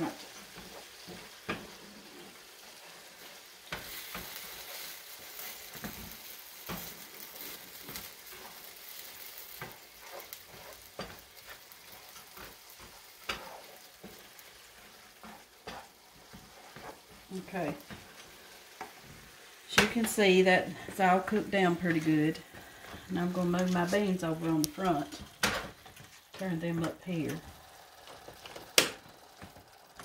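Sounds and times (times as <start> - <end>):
vegetables sizzling in a frying pan: 0.0 - 30.0
wooden spoon scraping a pan: 0.0 - 30.0.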